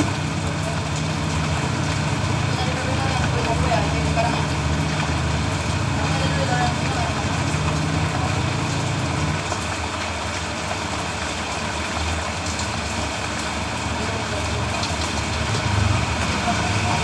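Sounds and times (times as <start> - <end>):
rain falling on a road: 0.0 - 17.0
vehicle engine hum: 0.0 - 17.0.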